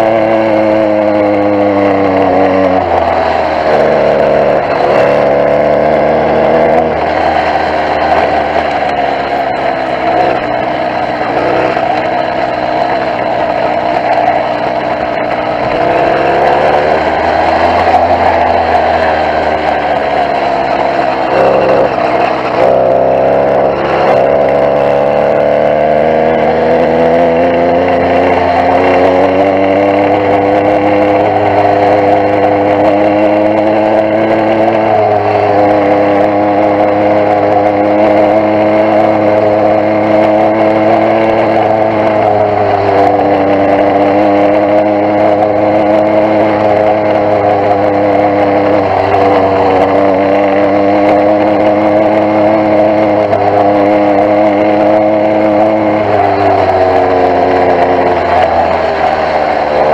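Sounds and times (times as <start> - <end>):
small bike engine running: 0.0 - 59.9.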